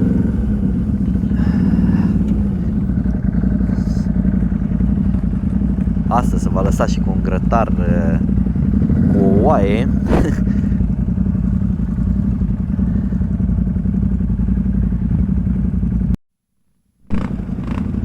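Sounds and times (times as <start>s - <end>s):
atv engine running: 0.0s - 16.2s, 17.1s - 18.0s.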